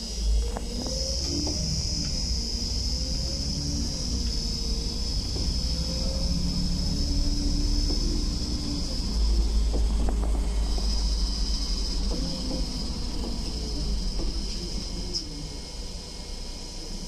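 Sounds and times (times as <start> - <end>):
bus interior rumble: 0.0 - 17.0
drivetrain hum: 0.0 - 17.0.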